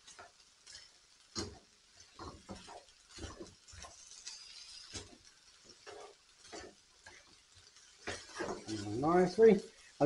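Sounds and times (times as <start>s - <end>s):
spoon scraping frying pan: 0.0s - 9.1s.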